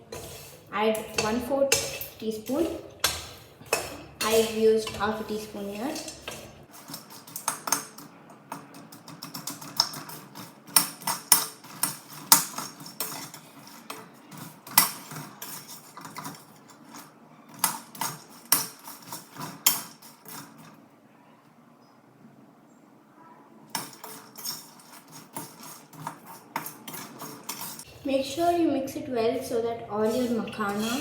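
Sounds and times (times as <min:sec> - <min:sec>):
spoon clinking and scraping a pan: 0:00.0 - 0:20.8, 0:23.7 - 0:27.9, 0:30.1 - 0:31.0.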